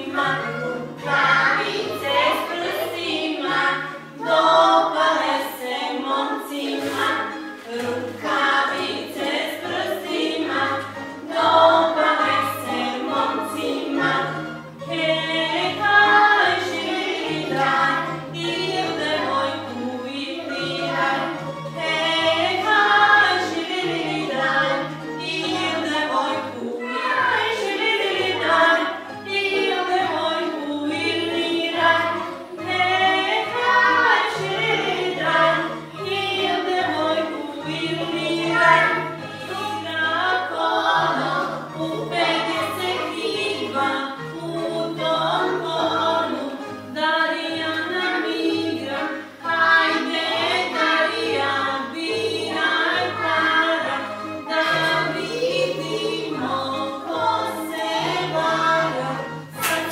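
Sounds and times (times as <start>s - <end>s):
instrumental accompaniment: 0.0s - 59.9s
voices singing folk song: 0.0s - 59.9s.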